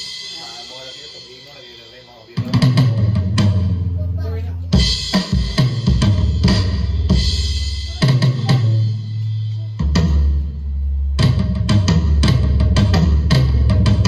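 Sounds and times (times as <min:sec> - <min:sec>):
electronic drum beat: 0:00.0 - 0:14.0.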